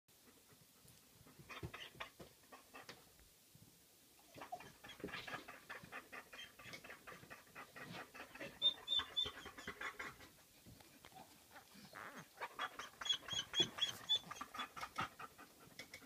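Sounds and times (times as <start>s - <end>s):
dog panting fast: 0.2s - 2.9s, 4.4s - 16.0s.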